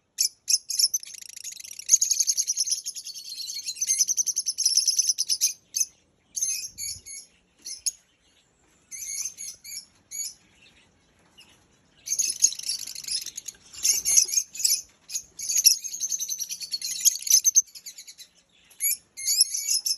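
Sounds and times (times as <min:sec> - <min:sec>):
lovebirds chirping: 0:00.0 - 0:19.9.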